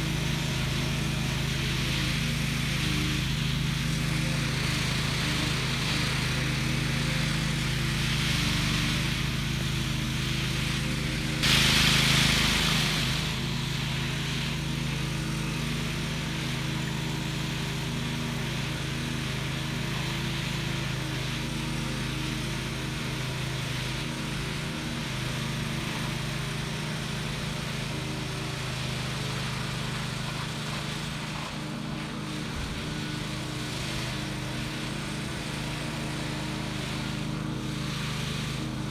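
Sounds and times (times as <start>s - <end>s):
power trowel engine running: 0.0s - 38.9s.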